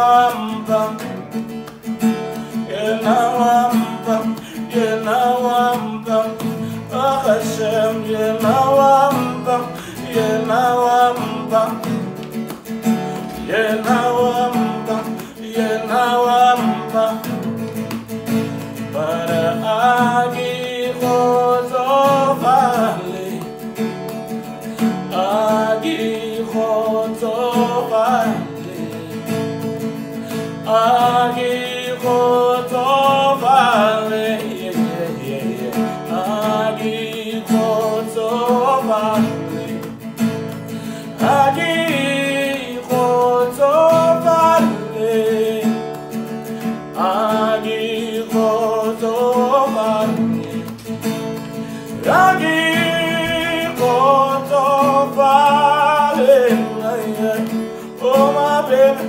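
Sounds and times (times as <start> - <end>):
acoustic guitar: 0.0 - 59.0
man singing: 0.0 - 59.0.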